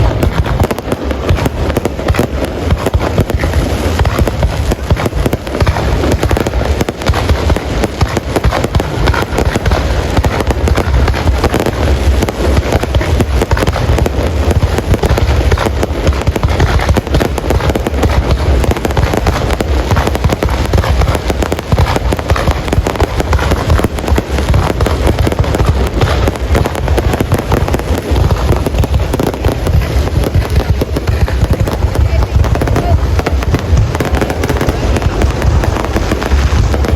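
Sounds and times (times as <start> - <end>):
fireworks booming and crackling: 0.0 - 36.9.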